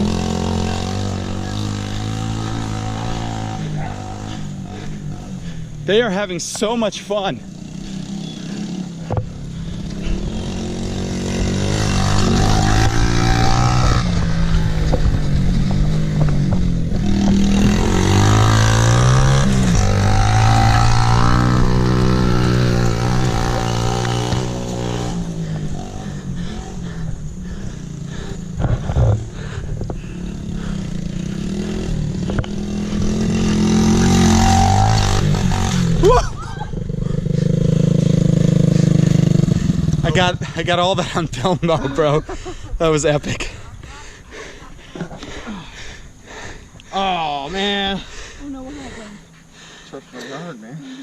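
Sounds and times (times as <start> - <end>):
mini bike engine revving: 0.0 - 41.0.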